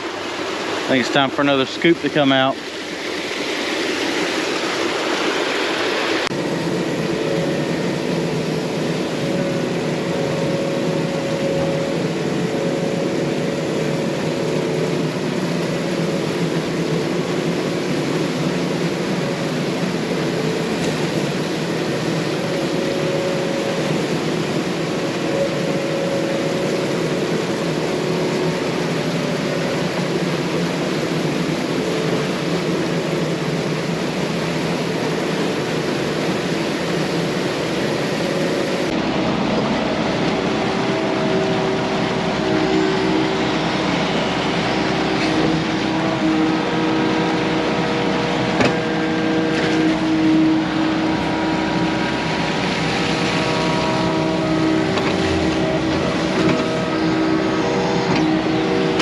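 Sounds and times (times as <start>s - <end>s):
excavator diesel engine running: 0.0s - 59.0s
running water: 0.0s - 59.0s.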